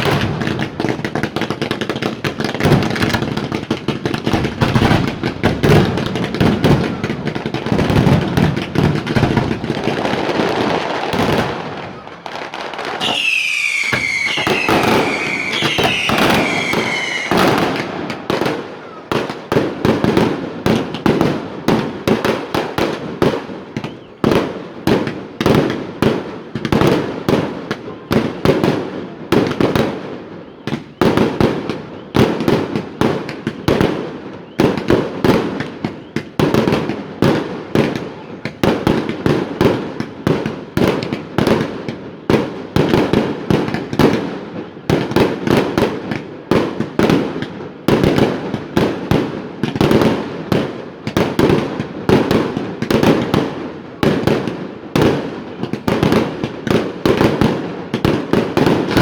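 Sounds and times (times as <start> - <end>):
fireworks bursts and crackling: 0.0 - 59.0.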